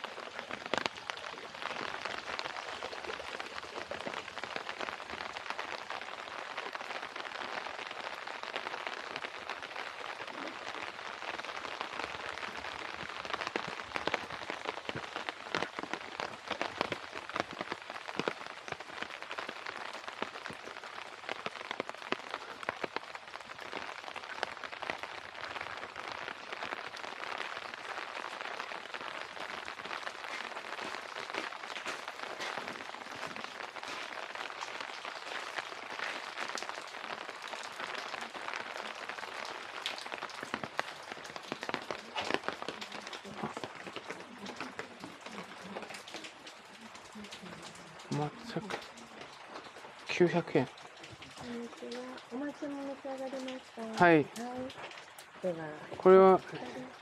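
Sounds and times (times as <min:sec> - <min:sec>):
rain hissing: 0:00.0 - 0:57.0
raindrops tapping: 0:00.0 - 0:57.0.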